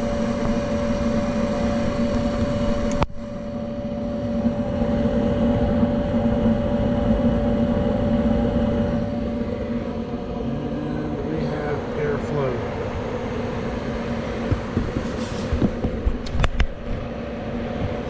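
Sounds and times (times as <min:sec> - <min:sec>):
furnace motor hum: 0:00.0 - 0:18.0
rushing air noise: 0:00.0 - 0:18.0.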